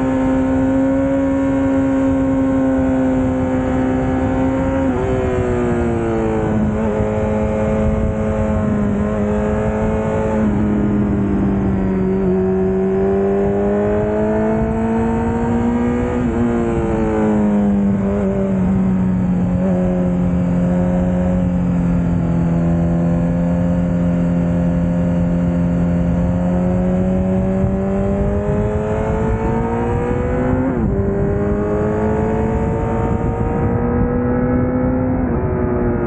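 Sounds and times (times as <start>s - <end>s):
motorcycle engine: 0.0s - 36.0s
wind rush on microphone: 0.0s - 36.0s.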